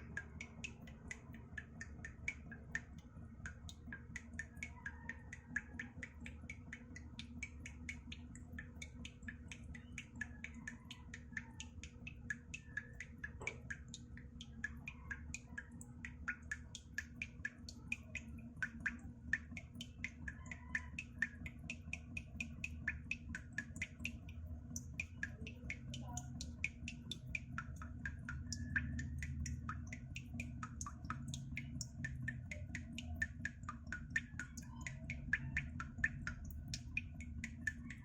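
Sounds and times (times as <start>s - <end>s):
low steady hum: 0.0s - 38.0s
water droplets dripping: 0.0s - 38.0s.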